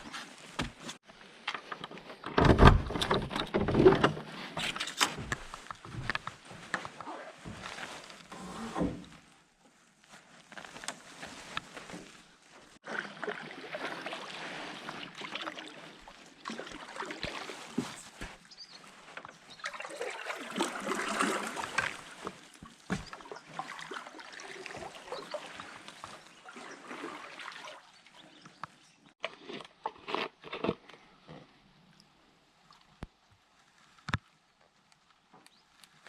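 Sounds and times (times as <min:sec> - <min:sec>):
water splashing and sloshing: 0:00.0 - 0:30.2.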